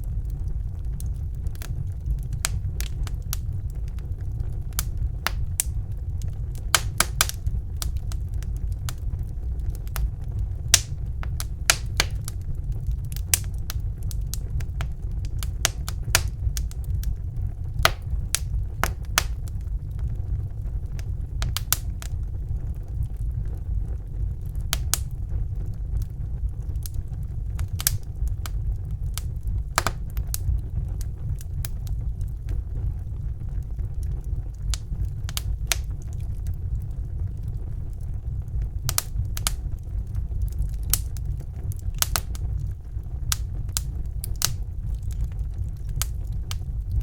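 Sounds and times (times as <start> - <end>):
low rumble of burning fire: 0.0 - 47.0
wood fire popping and snapping: 0.0 - 47.0.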